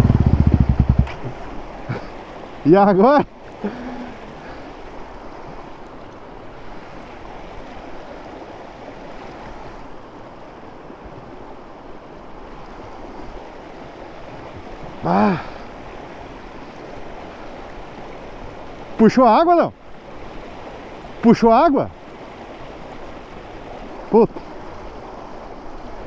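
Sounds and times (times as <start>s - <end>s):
river water flowing: 0.0s - 26.0s.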